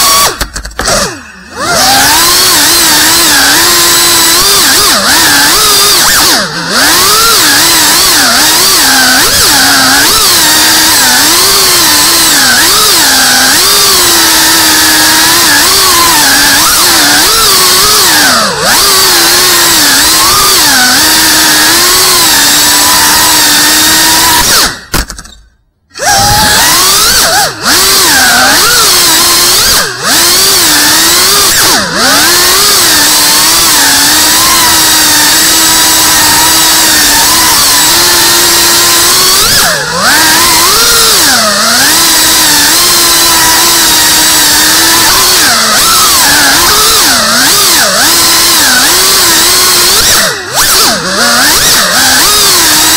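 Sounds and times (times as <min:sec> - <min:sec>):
quadcopter motors whining: 0:00.0 - 0:52.9.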